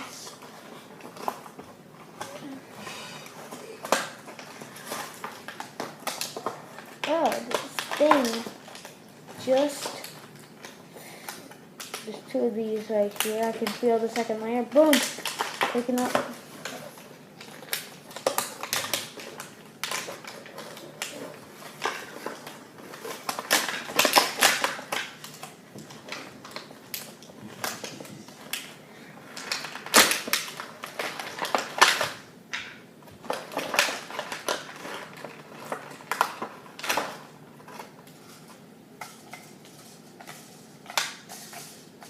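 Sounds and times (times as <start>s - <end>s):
packaging rustling: 0.0s - 42.0s.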